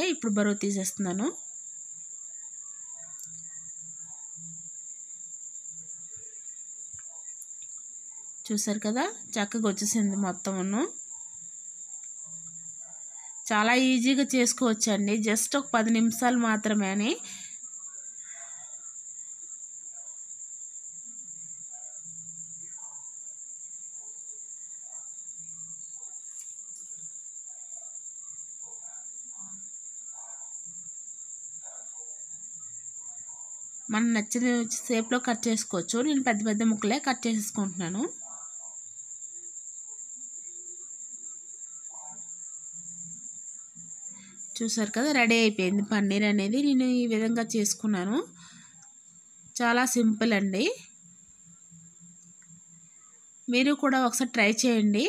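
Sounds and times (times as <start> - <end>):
cricket trilling: 0.0 - 55.0
faint background sounds: 0.0 - 55.0.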